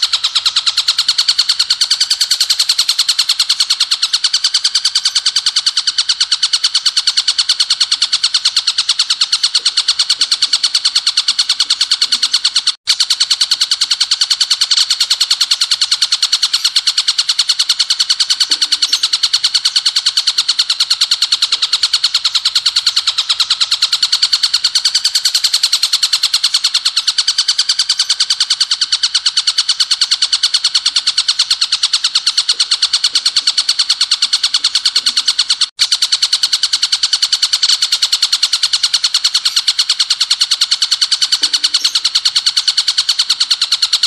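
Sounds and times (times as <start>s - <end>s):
bird singing rattling trill: 0.0s - 44.0s.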